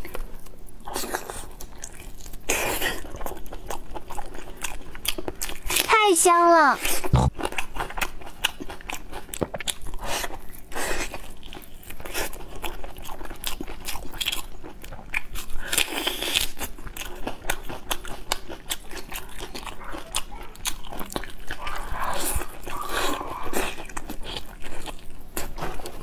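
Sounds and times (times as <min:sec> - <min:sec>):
close chewing and mouth smacks: 0:00.0 - 0:05.9, 0:06.8 - 0:26.0.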